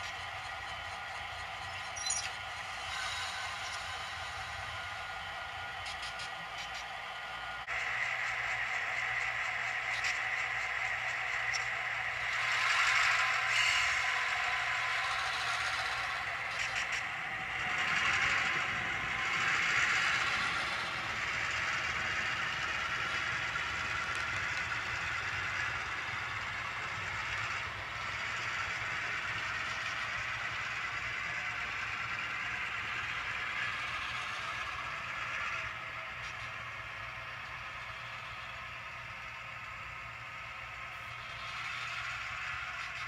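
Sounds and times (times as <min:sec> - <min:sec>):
model locomotive diesel engine sound: 0:00.0 - 0:43.0
wheels rattling on rails: 0:00.0 - 0:43.0.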